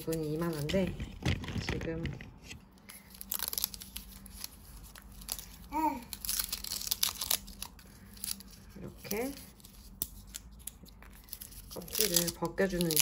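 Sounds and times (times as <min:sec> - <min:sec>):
bulb skin crinkling and tearing: 0:00.0 - 0:13.0.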